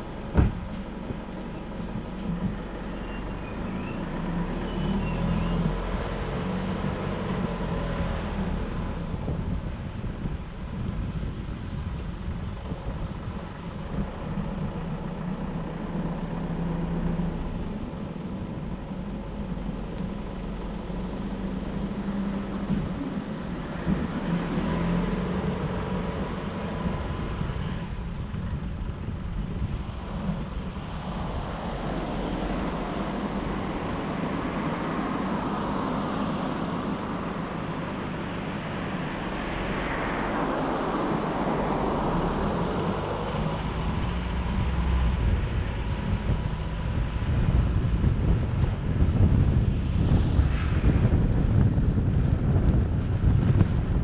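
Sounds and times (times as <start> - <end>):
tyre and wind noise: 0.0 - 16.3, 16.9 - 54.0
vehicle engine hum: 0.0 - 54.0.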